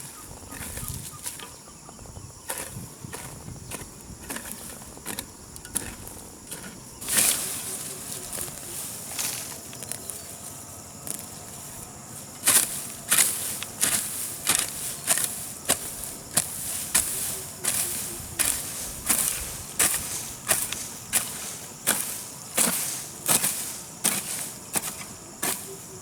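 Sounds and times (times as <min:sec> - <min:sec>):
hoe chopping into soil: 0:02.5 - 0:10.3, 0:12.2 - 0:25.7.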